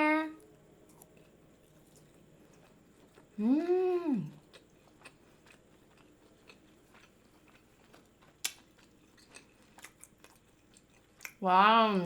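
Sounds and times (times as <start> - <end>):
person chewing: 0.8 - 11.4.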